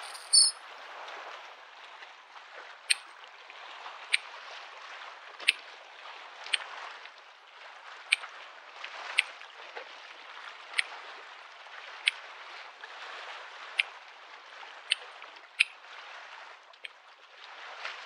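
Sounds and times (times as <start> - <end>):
small waves lapping: 0.0 - 18.0.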